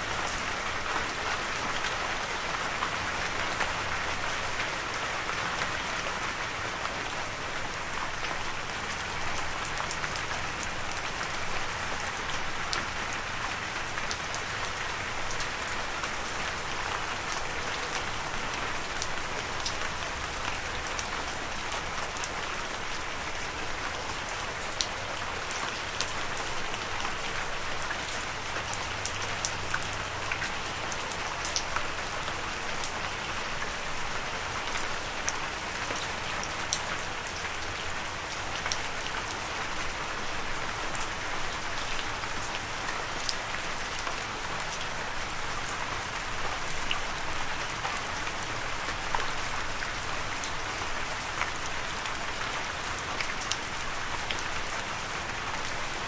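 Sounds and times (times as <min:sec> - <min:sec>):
raindrops pattering on a surface: 0:00.0 - 0:56.0.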